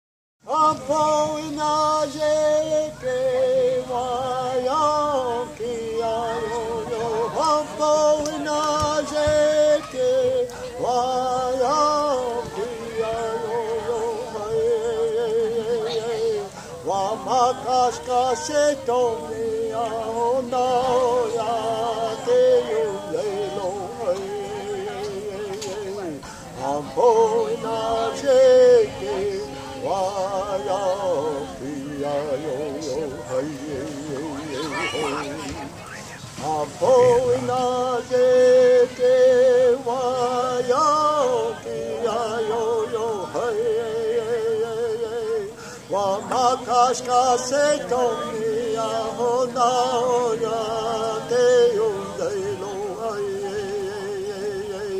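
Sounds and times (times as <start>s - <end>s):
man singing unaccompanied: 0.4s - 54.9s.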